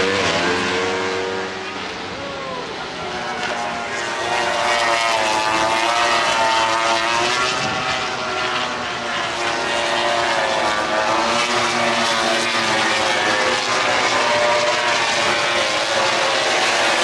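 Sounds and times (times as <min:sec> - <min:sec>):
racing motorcycle engine passing: 0:00.0 - 0:02.2, 0:03.0 - 0:17.0.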